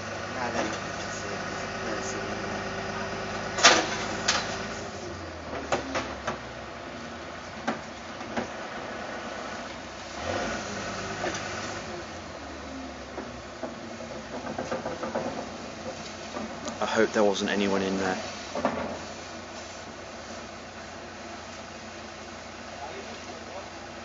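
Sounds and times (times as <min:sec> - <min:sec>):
fire engine running: 0:00.0 - 0:24.0.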